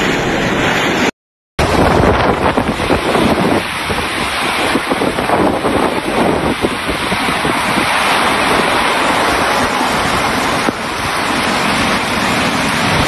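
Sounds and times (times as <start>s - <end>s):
strong wind buffeting microphone: 0.0s - 13.0s
heavy driving rain: 1.6s - 13.0s.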